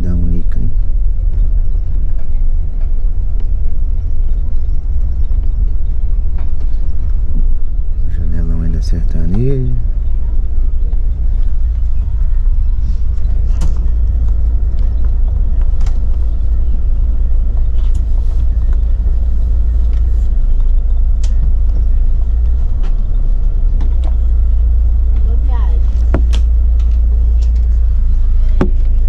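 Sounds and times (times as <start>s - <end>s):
engine and road rumble: 0.0s - 29.0s.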